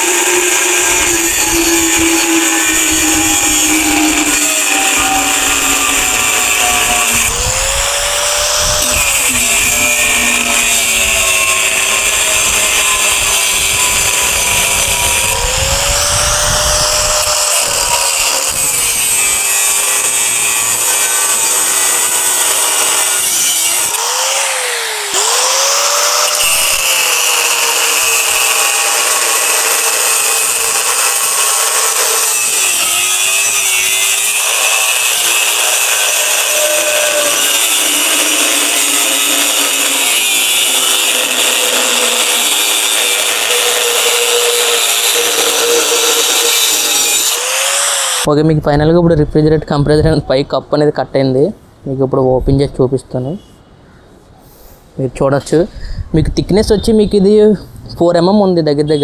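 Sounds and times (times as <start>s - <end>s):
angle grinder cutting steel: 0.0s - 48.3s.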